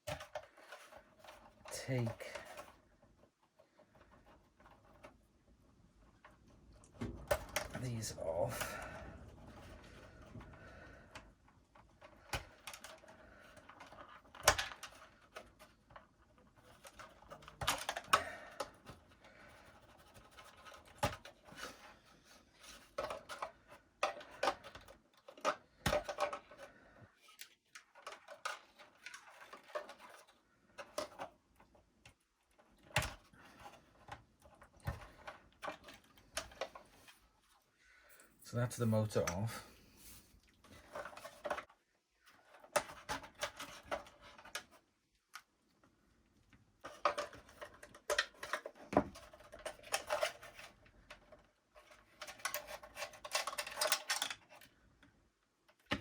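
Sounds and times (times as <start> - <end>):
plastic parts clicking and knocking: 0.0 - 37.6, 40.6 - 56.0.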